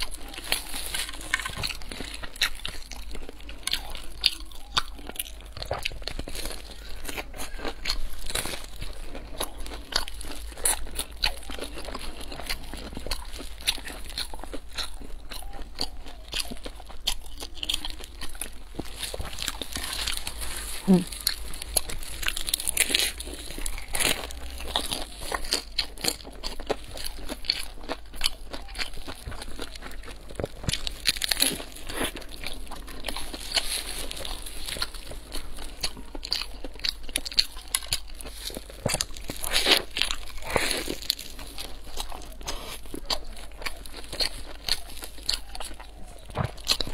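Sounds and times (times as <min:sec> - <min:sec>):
crunching fried pastry: 0:00.0 - 0:46.9
wet chewing: 0:00.0 - 0:46.9.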